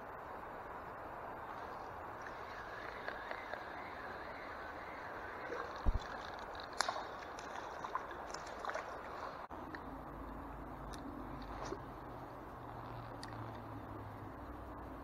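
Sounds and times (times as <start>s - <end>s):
river water flowing and lapping: 0.0s - 15.0s.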